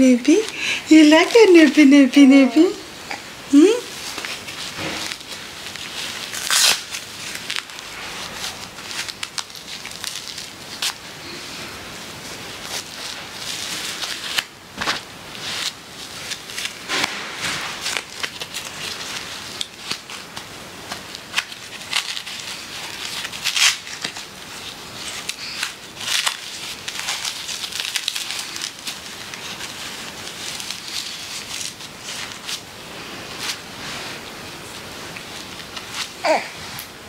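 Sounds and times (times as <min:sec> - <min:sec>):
nappy crinkling and rustling: 0:00.0 - 0:37.0.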